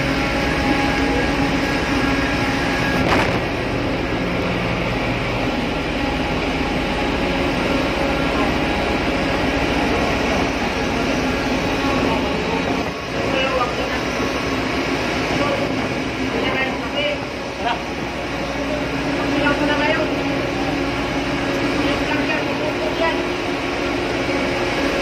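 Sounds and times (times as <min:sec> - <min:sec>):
engine room machinery drone: 0:00.0 - 0:25.0.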